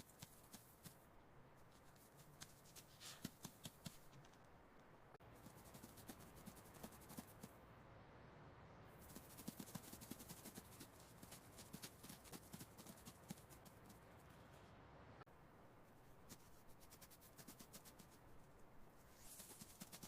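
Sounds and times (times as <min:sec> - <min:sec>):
faint rapid clicking and scratching: 0:00.0 - 0:01.0, 0:01.6 - 0:04.6, 0:05.2 - 0:07.6, 0:09.0 - 0:14.7, 0:15.8 - 0:20.0.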